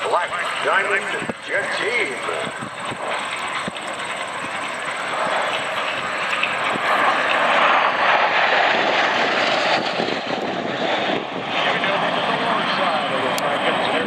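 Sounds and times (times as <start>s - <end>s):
jet aircraft roar overhead: 0.0s - 14.0s.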